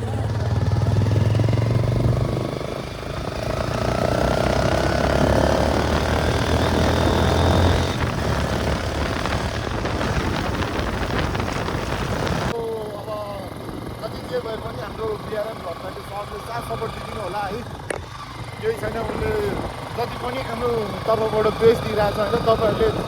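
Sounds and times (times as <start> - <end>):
wind rushing over microphone: 0.0 - 12.7, 13.3 - 15.2, 17.6 - 20.3, 21.6 - 23.0
motorcycle engine running: 0.0 - 23.0.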